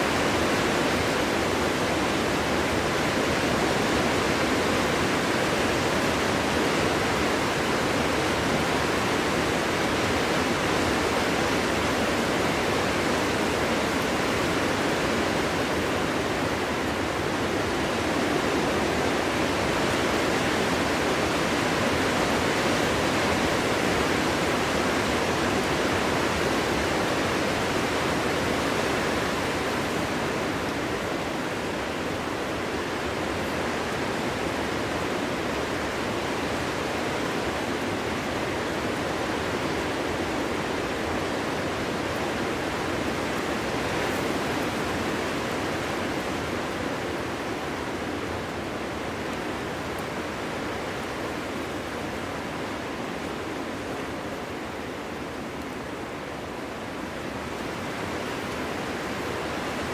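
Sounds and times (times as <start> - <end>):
wind blowing through forest: 0.0 - 59.9.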